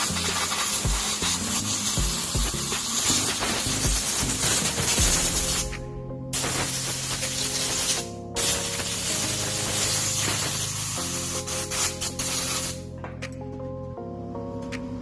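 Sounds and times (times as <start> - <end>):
air blow gun hissing: 0.0 - 12.9
background music: 0.0 - 15.0.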